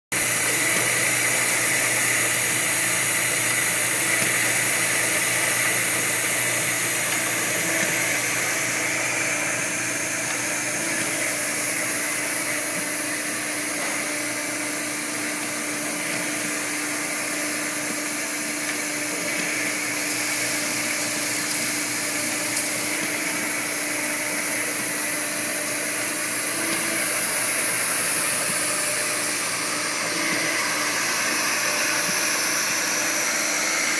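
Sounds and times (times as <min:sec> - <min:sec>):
machine hum: 0:00.2 - 0:33.9.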